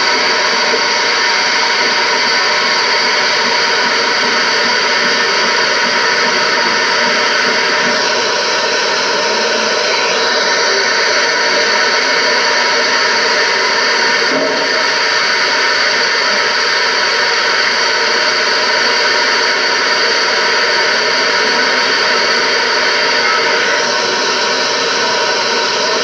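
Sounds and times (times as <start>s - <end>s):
videotape static hiss: 0.0s - 26.0s.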